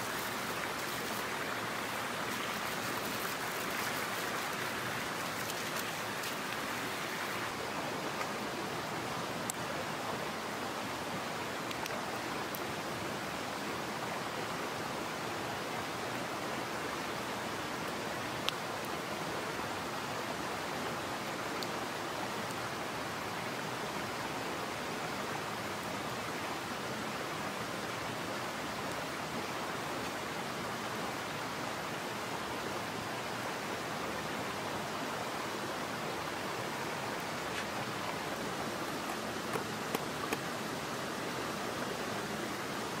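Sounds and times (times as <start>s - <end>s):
stream rushing: 0.0s - 43.0s.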